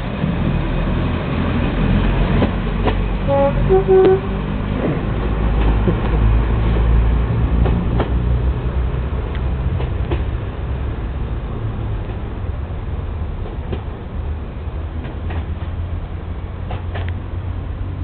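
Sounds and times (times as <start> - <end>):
diesel railcar engine rumble: 0.0 - 18.0.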